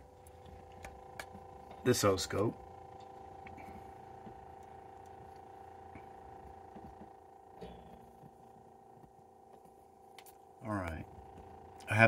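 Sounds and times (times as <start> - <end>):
electrical hum and whine: 0.0 - 12.0.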